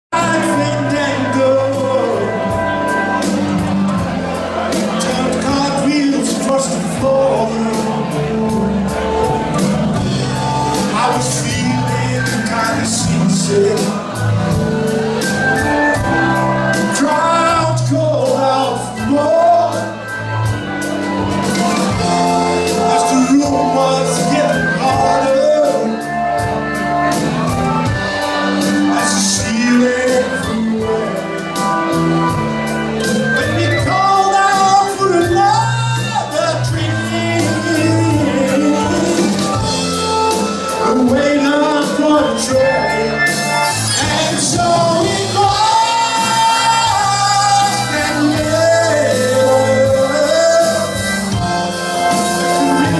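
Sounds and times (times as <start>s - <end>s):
bass guitar: 0.0s - 52.9s
man singing: 0.1s - 3.3s, 4.6s - 9.4s, 10.2s - 14.5s, 16.1s - 20.4s, 22.7s - 26.6s, 28.3s - 32.4s, 33.0s - 52.9s
steady drum beat: 0.1s - 52.9s
electric guitar: 0.2s - 52.9s.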